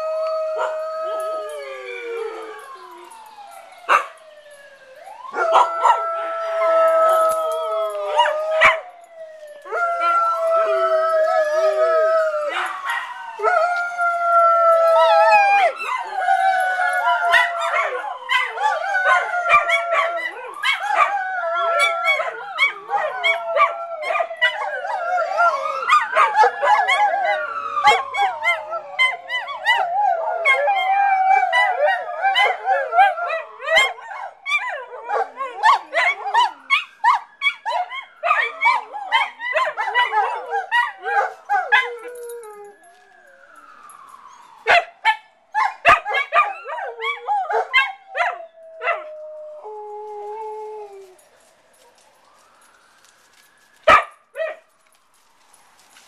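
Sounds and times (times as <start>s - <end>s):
dogs howling: 0.0s - 4.4s, 5.1s - 51.2s
fire engine siren wailing: 0.0s - 56.0s.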